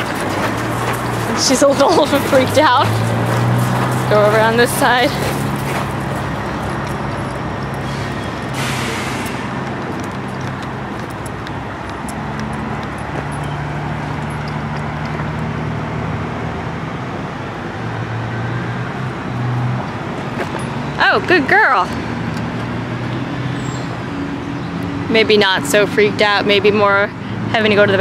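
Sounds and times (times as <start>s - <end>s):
freeway traffic noise: 0.0s - 28.0s
low engine hum: 0.0s - 28.0s.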